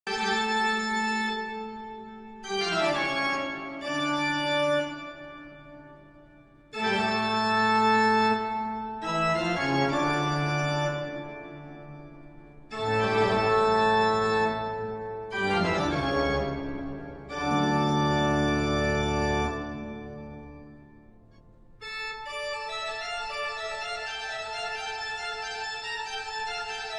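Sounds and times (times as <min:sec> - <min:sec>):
organ chords: 0:00.1 - 0:26.9.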